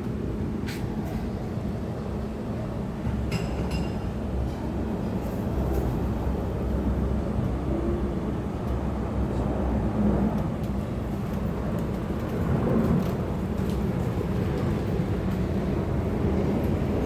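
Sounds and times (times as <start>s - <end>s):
low rumble of urban traffic: 0.0s - 17.0s.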